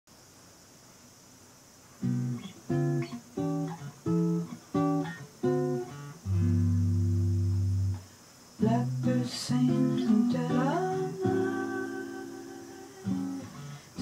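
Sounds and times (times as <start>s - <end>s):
acoustic guitar chords: 2.0s - 14.0s.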